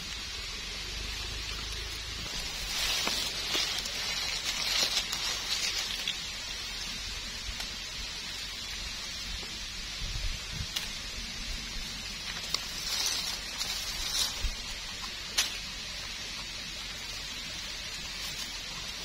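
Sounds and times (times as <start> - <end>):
dry leaves rustling and crackling: 0.0 - 19.0.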